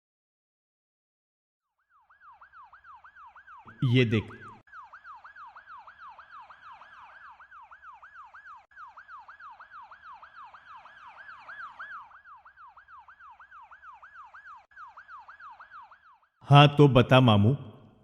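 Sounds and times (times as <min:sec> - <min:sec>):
emergency siren yelping: 0:01.8 - 0:16.4.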